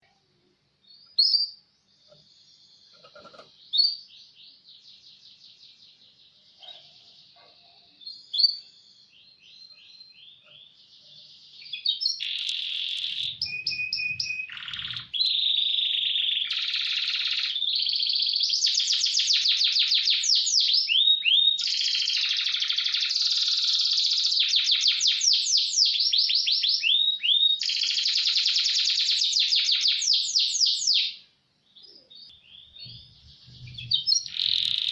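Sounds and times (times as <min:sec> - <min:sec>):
canary singing: 0:00.9 - 0:05.5, 0:06.2 - 0:34.9.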